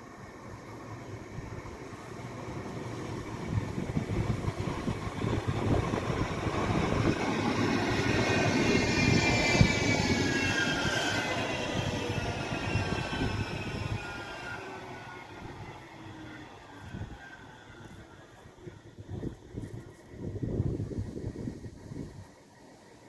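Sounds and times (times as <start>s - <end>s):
tram running rumble: 0.0s - 22.2s.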